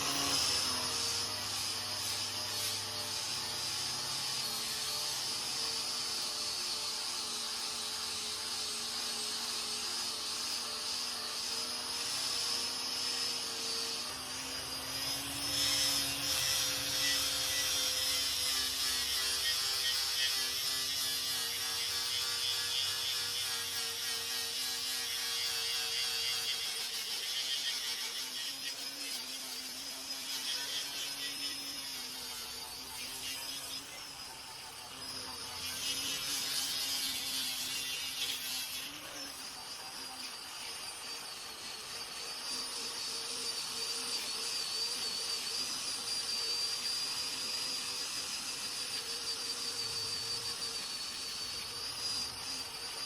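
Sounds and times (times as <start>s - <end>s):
power tool motor whine: 0.0s - 53.0s.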